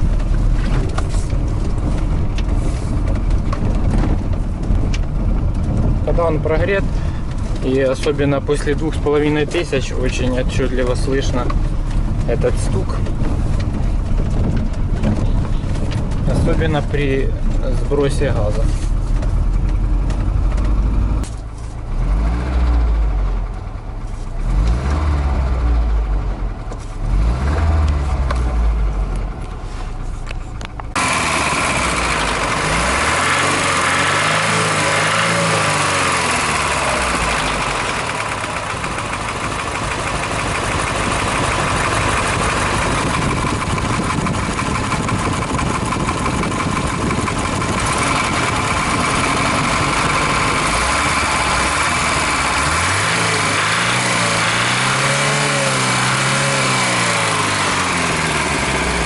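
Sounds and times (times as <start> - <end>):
engine knocking: 0.0 - 26.8, 27.6 - 59.0
petrol engine revving: 0.0 - 59.0.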